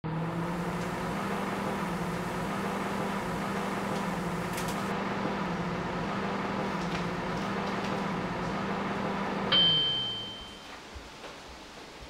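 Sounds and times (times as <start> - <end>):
microwave oven humming: 0.0 - 10.8.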